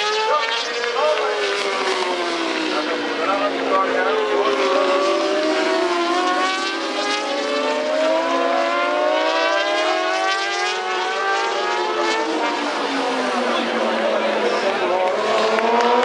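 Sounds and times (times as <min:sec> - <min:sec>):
racing motorcycle engines at high revs: 0:00.0 - 0:16.0.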